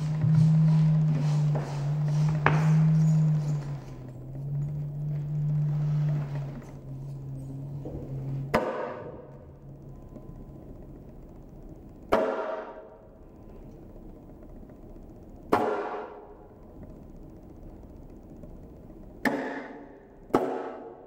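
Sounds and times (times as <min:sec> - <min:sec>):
low steady drone: 0:00.0 - 0:21.0.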